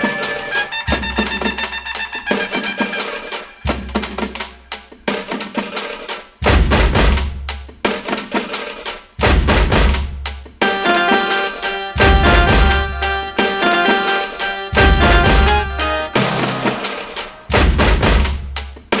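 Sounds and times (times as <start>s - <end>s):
music with driving drum beat: 0.0s - 19.0s.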